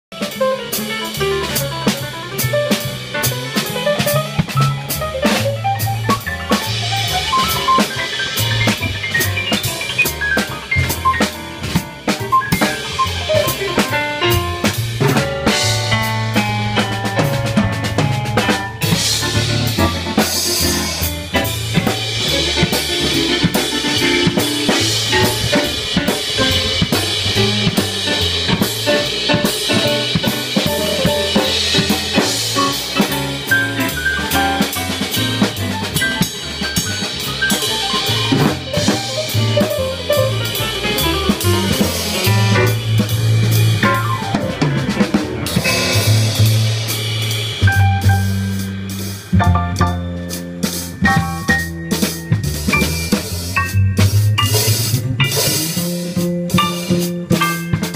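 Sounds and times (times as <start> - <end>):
jazz band playing: 0.1 - 57.9
snare and bass drum hits: 0.1 - 57.9.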